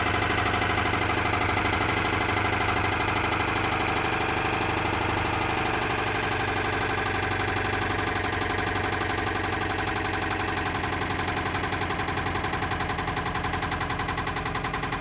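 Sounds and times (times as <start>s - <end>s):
car engine idling with knocking: 0.0s - 15.0s.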